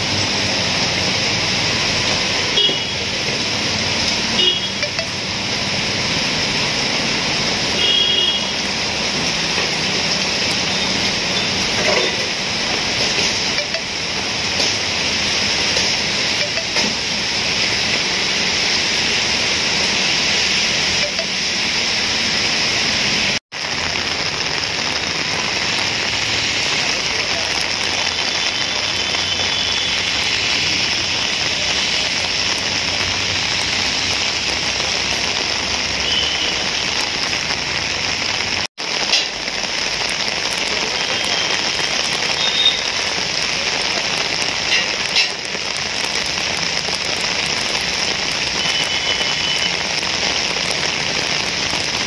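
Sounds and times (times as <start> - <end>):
heavy rain pouring on street: 0.0 - 52.0.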